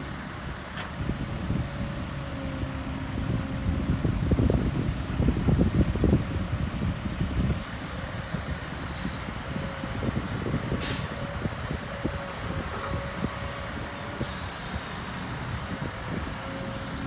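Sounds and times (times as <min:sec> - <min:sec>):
diesel construction machinery running: 0:00.0 - 0:17.0.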